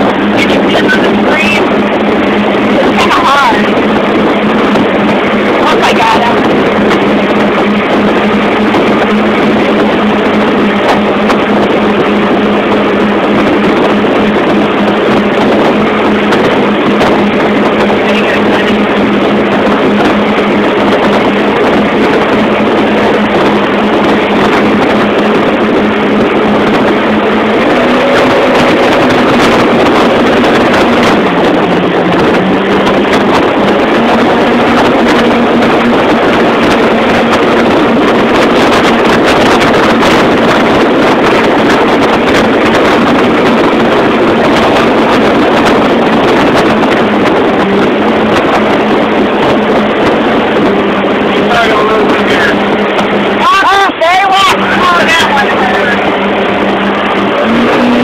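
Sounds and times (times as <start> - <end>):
churning water: 0.0 - 58.0
motorboat engine running: 0.0 - 58.0
wind rushing: 0.0 - 58.0.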